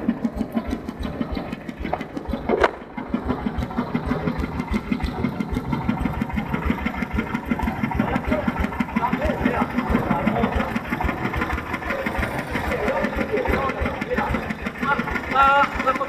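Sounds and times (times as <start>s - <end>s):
rice-milling machine pulsing: 0.0s - 16.0s.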